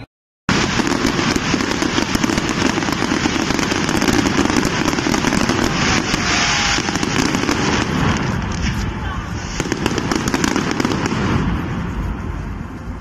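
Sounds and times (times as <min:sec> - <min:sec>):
fireworks crackling and popping: 0:00.5 - 0:13.0
hissing rush of sparks: 0:00.5 - 0:13.0.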